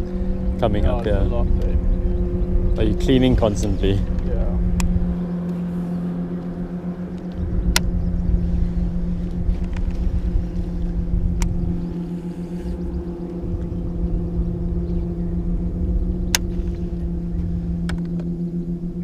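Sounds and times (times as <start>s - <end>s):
electric trolling motor humming: 0.0s - 19.0s.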